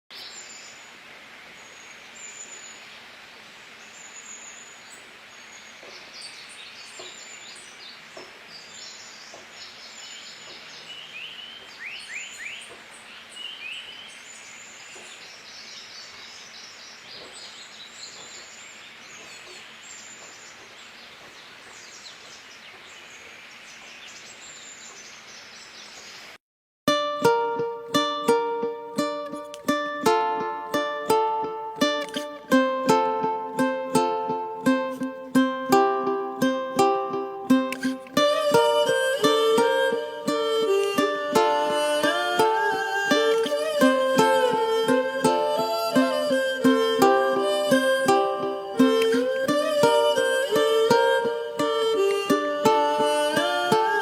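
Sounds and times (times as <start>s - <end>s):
steady background hiss: 0.1s - 54.0s.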